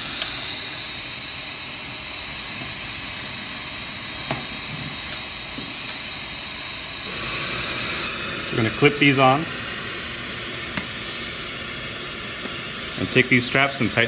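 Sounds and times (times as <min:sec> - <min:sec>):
oxygen hissing: 0:00.0 - 0:14.0.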